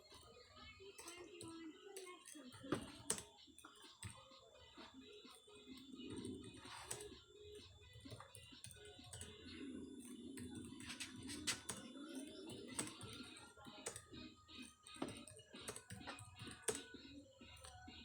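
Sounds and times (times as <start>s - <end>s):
faint music: 0.0s - 18.0s
keyboard typing clicks: 0.9s - 18.0s.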